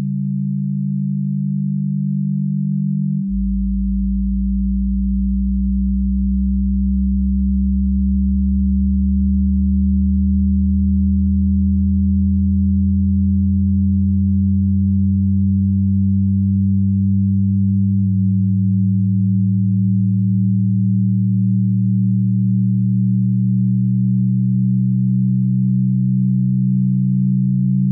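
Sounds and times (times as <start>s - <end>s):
deep synthesized drone: 0.0s - 27.9s.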